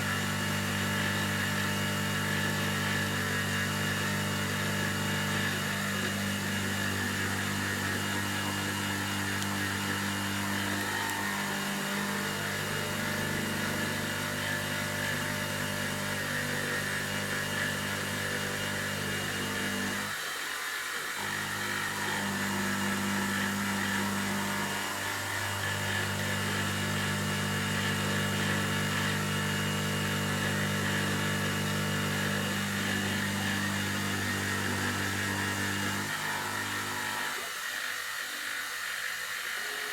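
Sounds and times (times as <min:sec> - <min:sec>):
spindle motor humming: 0:00.0 - 0:39.9.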